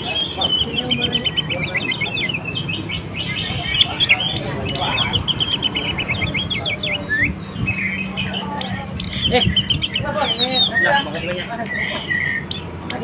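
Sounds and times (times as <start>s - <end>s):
bird singing chattering notes: 0.0s - 13.0s.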